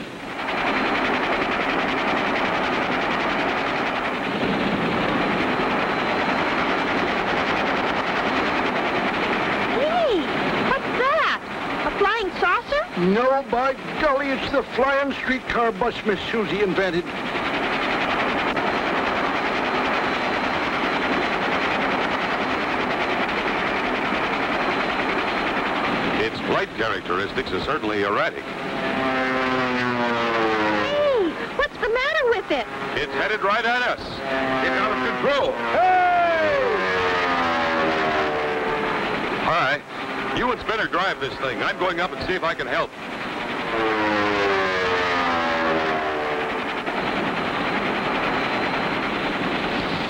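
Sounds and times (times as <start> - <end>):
fast mechanical engine rattle: 0.0 - 50.0.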